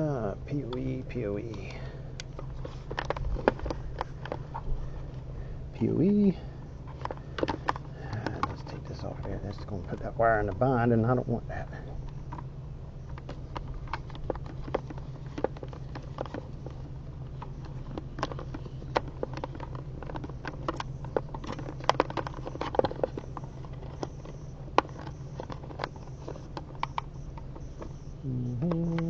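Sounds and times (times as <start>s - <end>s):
steady low hum: 0.0s - 29.0s
hands handling cable and hardware: 0.7s - 5.2s, 6.7s - 10.6s, 12.0s - 28.2s.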